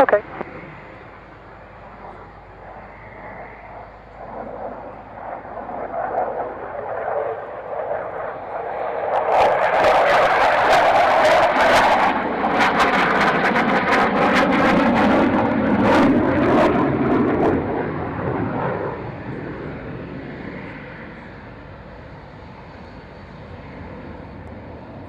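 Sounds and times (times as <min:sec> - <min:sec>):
aircraft engine passing close: 0:00.0 - 0:25.0.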